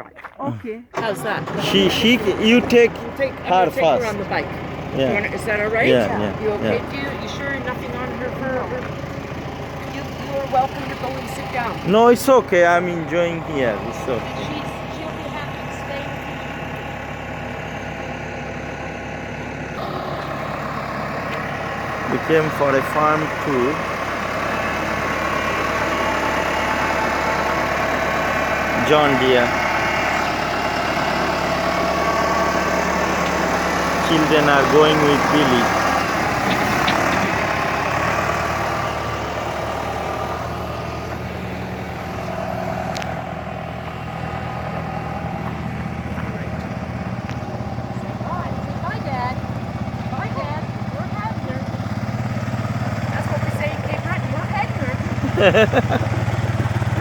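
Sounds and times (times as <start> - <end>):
tractor diesel engine idling: 0.4 - 57.0.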